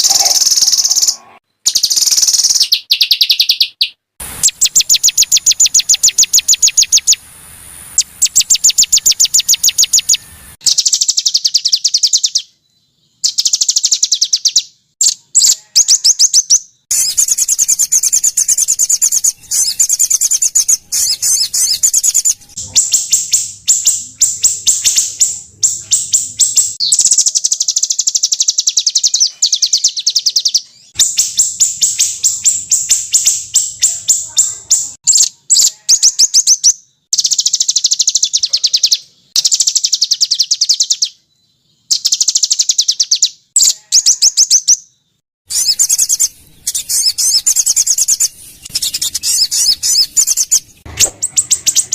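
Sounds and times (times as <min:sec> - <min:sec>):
songbirds rapid high trills: 0:00.0 - 0:12.4, 0:13.2 - 0:41.1, 0:45.5 - 0:51.9.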